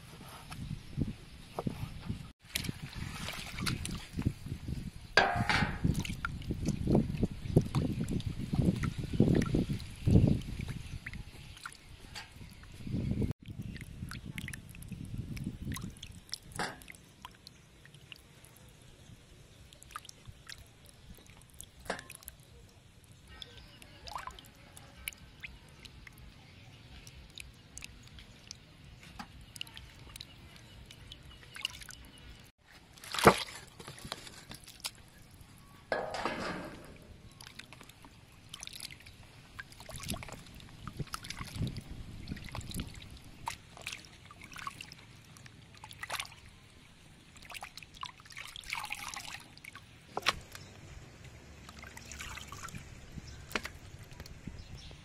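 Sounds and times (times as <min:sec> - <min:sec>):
water sloshing and dripping: 0:02.4 - 0:55.0.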